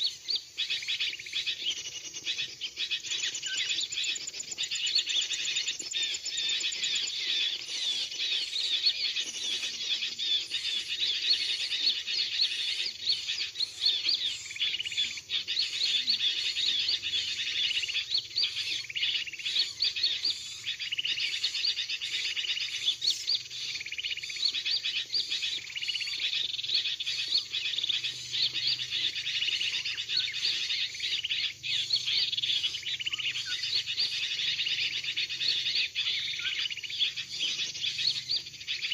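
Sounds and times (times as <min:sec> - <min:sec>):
bird chirps and twitters: 0:00.0 - 0:38.9.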